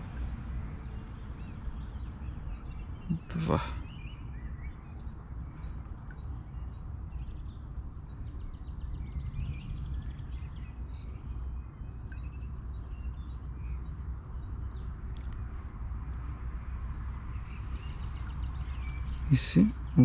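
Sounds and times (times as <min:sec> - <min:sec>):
insect-like chirping: 0:00.0 - 0:20.0.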